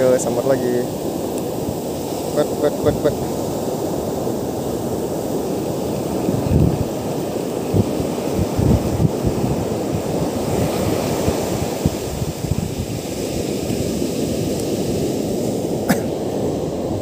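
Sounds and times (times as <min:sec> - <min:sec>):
surf breaking on beach: 0:00.0 - 0:17.0
wind on microphone: 0:00.0 - 0:17.0.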